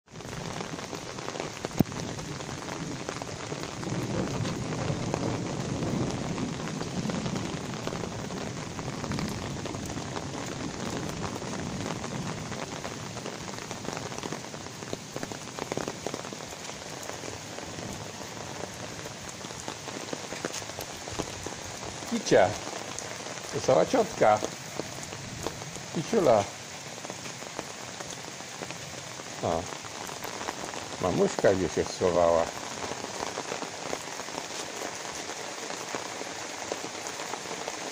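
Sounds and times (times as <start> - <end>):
light rain on pavement: 0.1 - 37.9.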